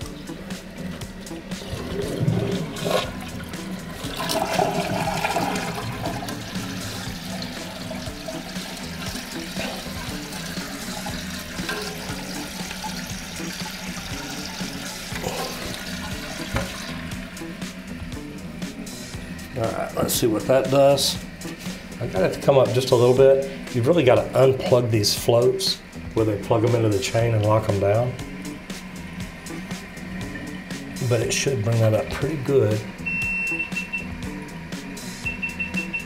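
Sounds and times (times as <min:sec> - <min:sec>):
toilet flushing: 0:00.0 - 0:36.0.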